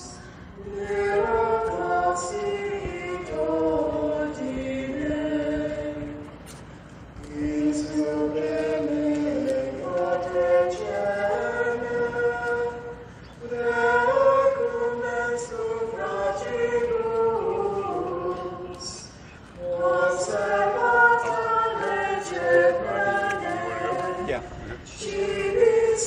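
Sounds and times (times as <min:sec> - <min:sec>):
group singing a slow hymn: 0:00.0 - 0:26.0.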